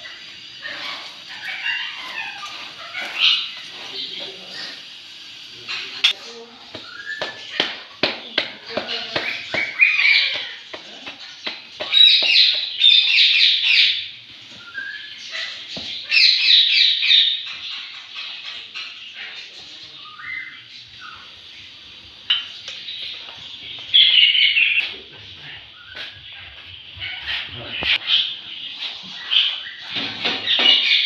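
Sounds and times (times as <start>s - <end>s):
bird chirping: 0.0s - 4.8s, 5.5s - 31.0s.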